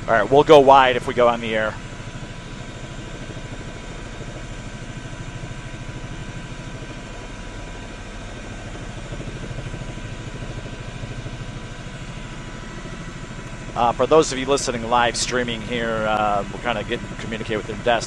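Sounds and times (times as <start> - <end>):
helicopter rotor and engine drone: 0.0 - 18.0.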